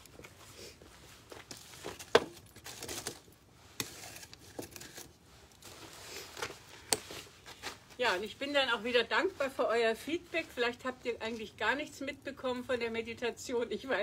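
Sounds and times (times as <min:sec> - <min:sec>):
wood fire crackling: 0:00.0 - 0:13.2.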